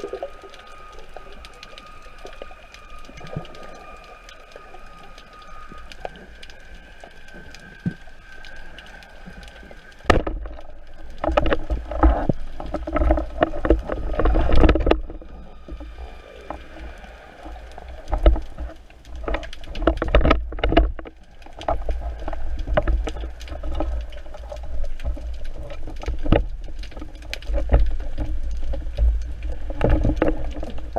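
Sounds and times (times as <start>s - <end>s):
faint steady whine: 0.0s - 30.9s.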